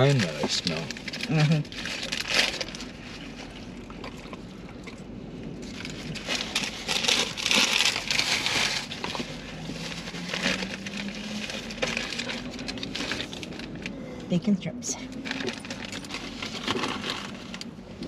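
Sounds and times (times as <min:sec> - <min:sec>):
food wrappers crinkling: 0:00.0 - 0:14.2, 0:15.1 - 0:17.8.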